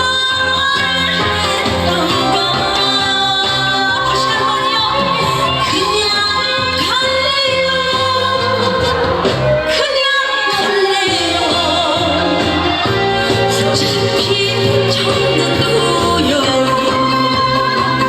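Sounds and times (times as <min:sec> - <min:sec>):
amplified backing music: 0:00.0 - 0:18.0
woman singing: 0:00.0 - 0:18.0.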